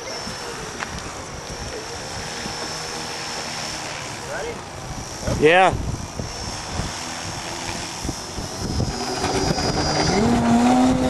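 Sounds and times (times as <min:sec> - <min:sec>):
model plane motor throttling up: 0:00.0 - 0:11.0
wind buffeting microphone: 0:00.0 - 0:11.0.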